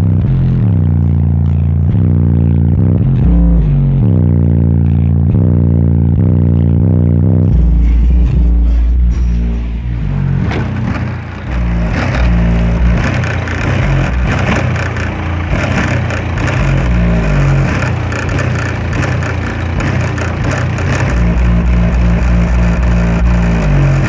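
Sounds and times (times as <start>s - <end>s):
bass-heavy music on subwoofer: 0.0s - 24.0s.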